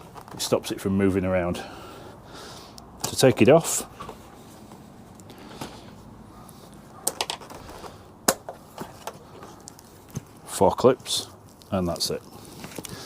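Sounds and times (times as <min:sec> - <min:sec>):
handling noise: 0:00.0 - 0:00.6, 0:03.0 - 0:13.0.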